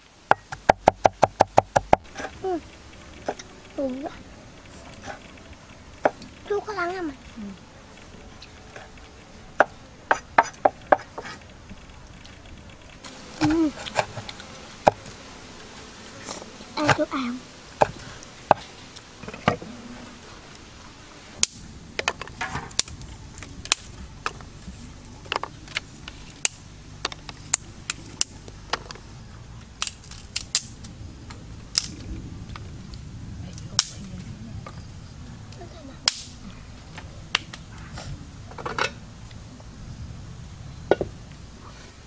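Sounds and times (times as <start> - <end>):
wood fire crackling: 0.0 - 42.0
low steady rumble: 1.8 - 42.0.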